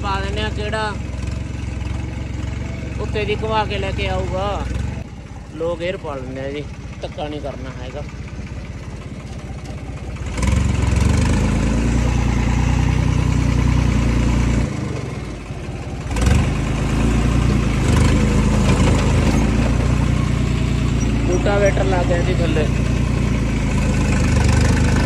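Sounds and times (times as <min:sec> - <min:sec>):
diesel tractor engine revving: 0:00.0 - 0:25.0.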